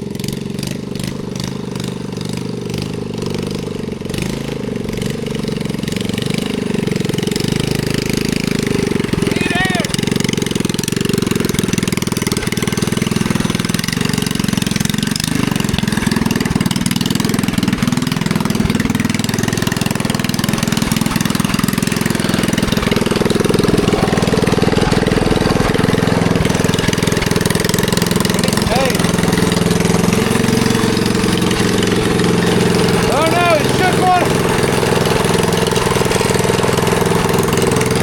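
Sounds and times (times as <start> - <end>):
mini bike engine running: 0.0 - 38.0.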